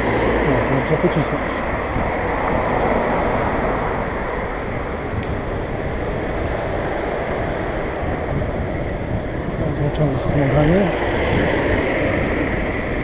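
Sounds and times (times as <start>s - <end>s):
bicycle tyre and road rumble: 0.0s - 13.0s
wind rushing over microphone: 0.0s - 13.0s.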